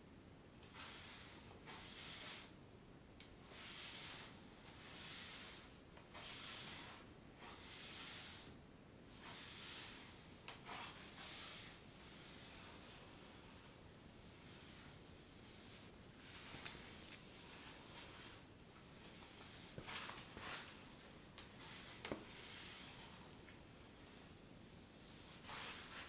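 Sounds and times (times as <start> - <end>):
broom sweeping hard floor: 0.6 - 2.6, 3.2 - 26.0.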